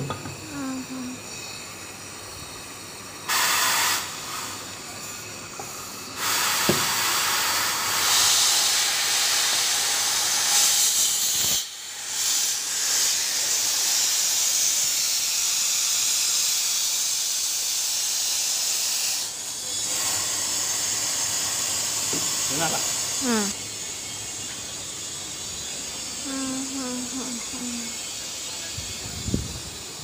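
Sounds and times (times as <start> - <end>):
compressed air hissing: 0.0 - 30.0.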